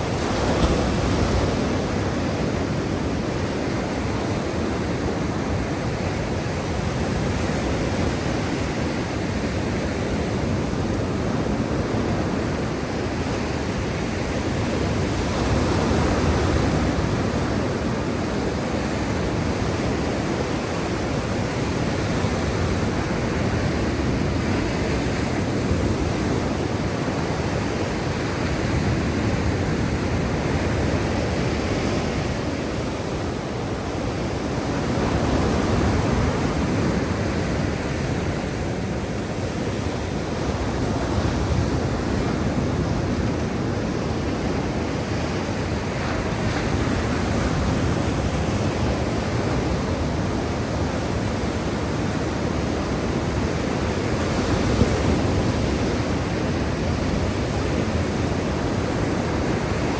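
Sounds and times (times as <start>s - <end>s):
waves washing: 0.0s - 59.9s.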